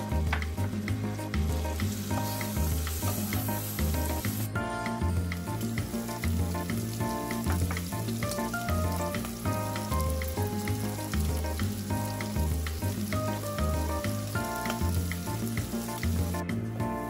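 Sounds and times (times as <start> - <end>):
shrimp sizzling in a pan: 0.0 - 16.4
background music with bass line: 0.0 - 17.0.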